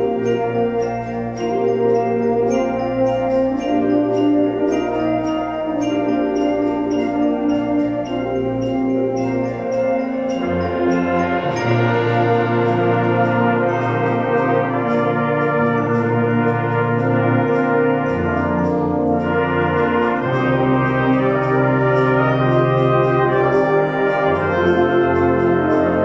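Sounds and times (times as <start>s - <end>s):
band playing with brass: 0.0s - 26.0s.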